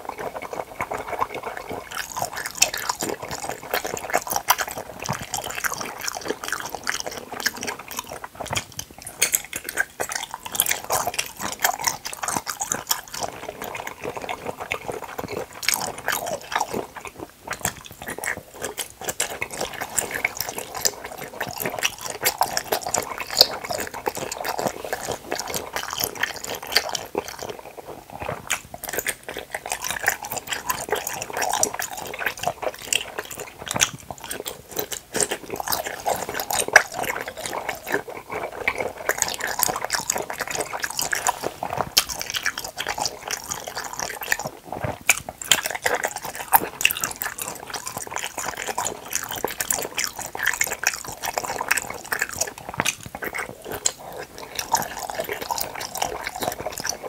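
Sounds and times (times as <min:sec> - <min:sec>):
chewing jelly: 0:00.0 - 0:57.0.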